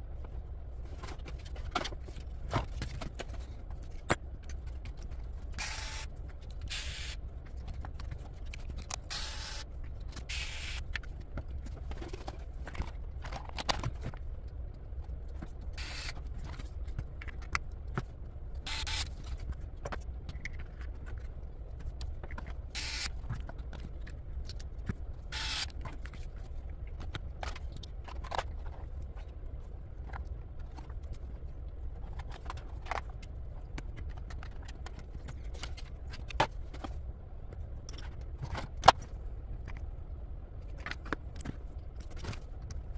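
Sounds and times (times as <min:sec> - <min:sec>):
steady low hum: 0:00.0 - 0:42.9
small parts and tools handled: 0:00.2 - 0:39.9.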